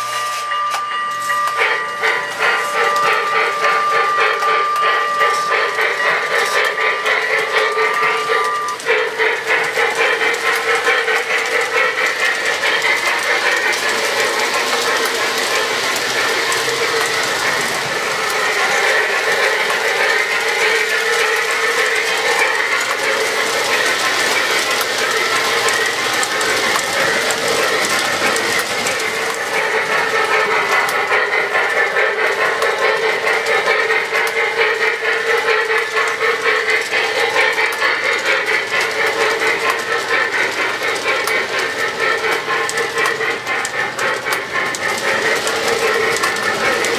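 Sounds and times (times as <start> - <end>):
model train wheels clattering on track: 0.0 - 46.9
rhythmic steam exhaust: 0.0 - 46.9.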